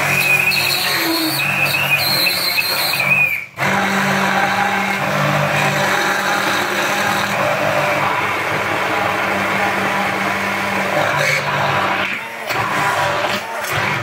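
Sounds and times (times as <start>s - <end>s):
immersion blender running: 0.0s - 14.0s.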